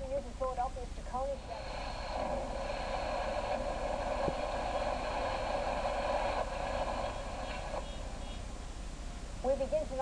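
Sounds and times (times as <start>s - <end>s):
gas fire roaring: 1.1s - 9.4s.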